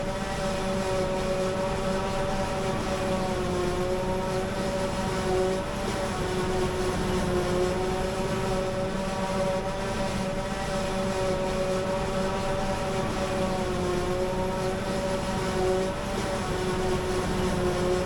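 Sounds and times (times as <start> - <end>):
harvesting machinery engine hum: 0.0 - 18.0.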